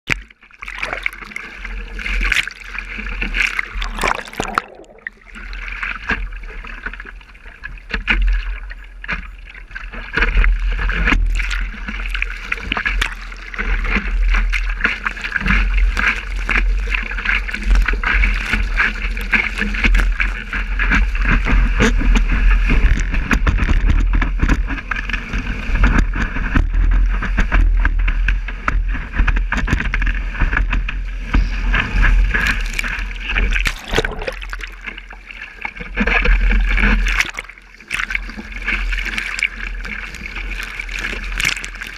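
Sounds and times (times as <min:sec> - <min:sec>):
low rumble of water and wind: 0:00.1 - 0:41.9
water splashing over surfboard: 0:00.1 - 0:41.9.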